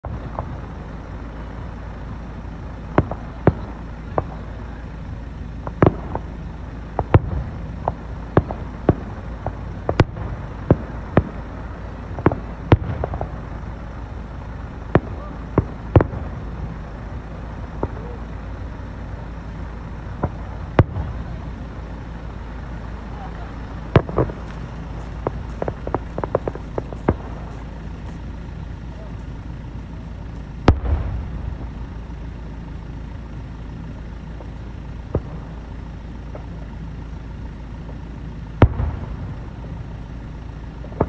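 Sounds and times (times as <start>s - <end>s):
fireworks bursting: 0.0s - 41.0s.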